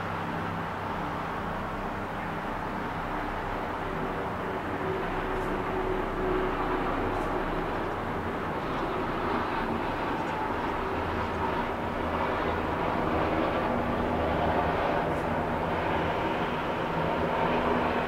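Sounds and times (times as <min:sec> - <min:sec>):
distant engines and traffic: 0:00.0 - 0:18.0.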